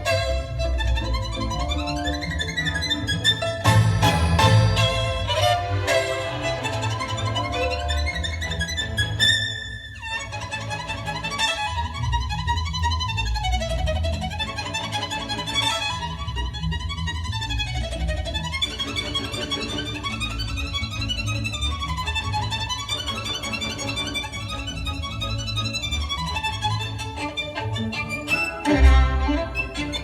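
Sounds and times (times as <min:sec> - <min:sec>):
bowed string melody: 0:00.0 - 0:30.0.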